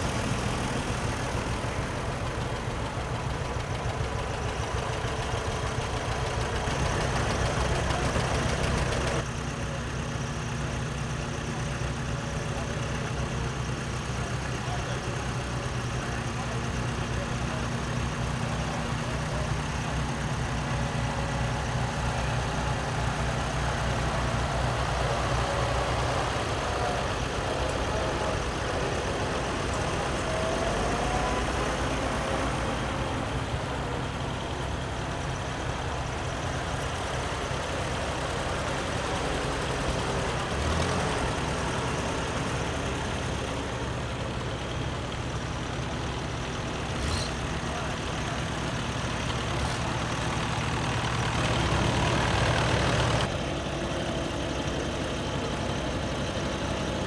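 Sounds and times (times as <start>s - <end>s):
tractor engines running: 0.0s - 57.0s.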